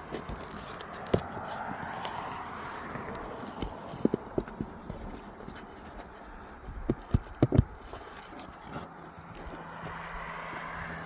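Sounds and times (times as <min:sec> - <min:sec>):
roof shingle scraping: 0:00.0 - 0:11.0.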